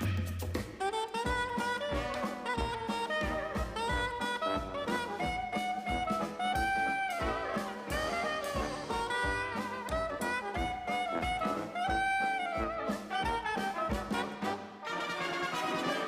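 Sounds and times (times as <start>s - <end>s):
swing jazz with saxophone and brass: 0.0s - 16.0s.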